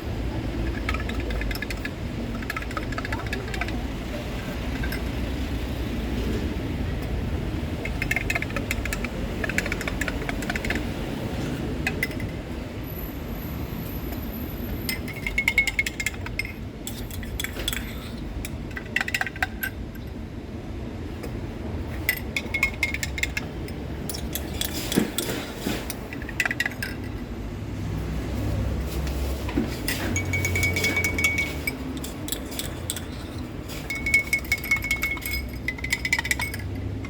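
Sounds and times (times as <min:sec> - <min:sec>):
utensils and cups clinking: 0:00.0 - 0:12.7, 0:14.2 - 0:20.2, 0:21.8 - 0:27.3, 0:28.8 - 0:37.0.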